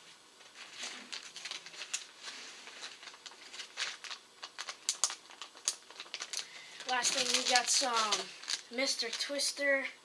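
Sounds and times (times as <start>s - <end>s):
plastic packaging crinkling: 0.4s - 9.5s.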